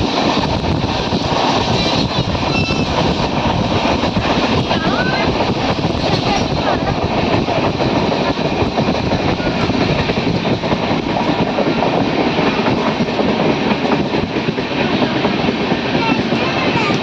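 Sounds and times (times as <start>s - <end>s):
train wheels clattering on track: 0.0s - 17.0s.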